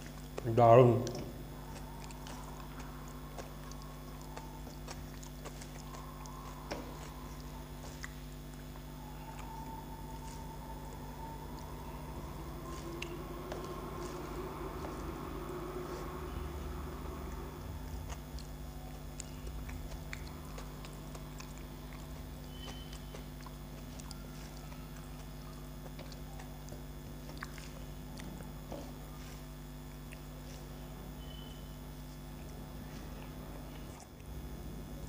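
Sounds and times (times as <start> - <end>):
fingers mixing rice on a plate: 0.0 - 30.8
person chewing: 0.0 - 35.0
steady low hum: 0.0 - 35.0.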